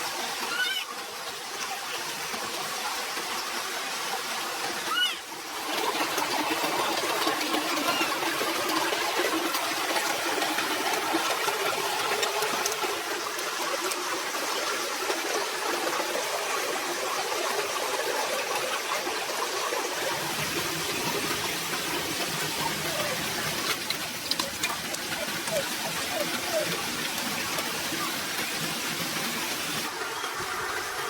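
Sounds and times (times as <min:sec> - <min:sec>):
running water rushing: 0:00.0 - 0:31.0.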